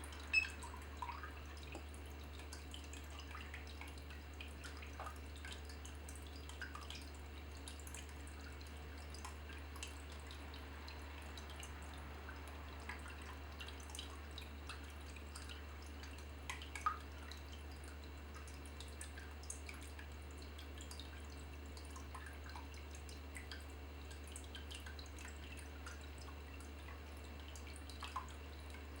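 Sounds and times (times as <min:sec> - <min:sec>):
water dripping and trickling: 0:00.0 - 0:29.0.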